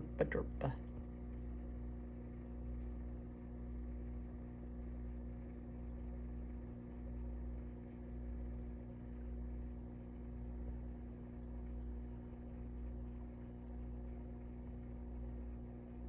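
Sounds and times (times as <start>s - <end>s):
low electrical hum with hiss: 0.0s - 16.0s.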